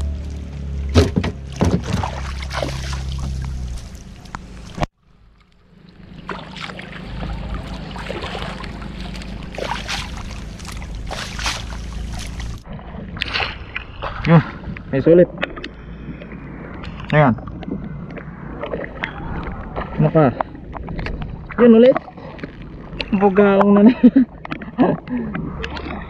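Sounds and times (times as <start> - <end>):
low hum: 0.0 - 26.0
paddle slapping water: 0.2 - 26.0
water splashing against canoe: 0.2 - 26.0.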